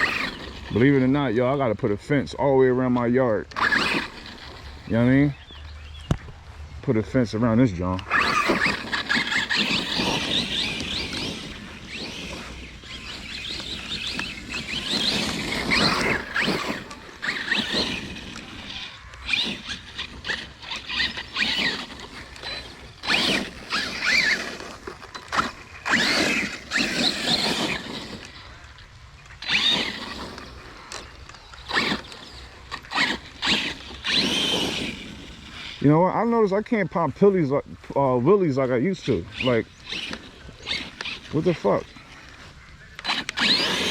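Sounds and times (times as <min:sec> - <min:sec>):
electric motor whining: 0:00.0 - 0:01.7, 0:02.8 - 0:06.4, 0:07.7 - 0:35.9, 0:38.8 - 0:43.9
tyres churning through muddy grass: 0:00.0 - 0:43.9.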